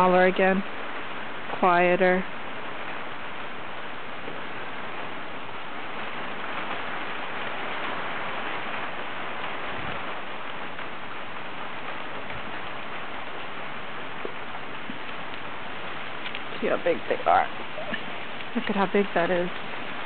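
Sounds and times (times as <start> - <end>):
hail striking the ground: 0.0 - 20.0.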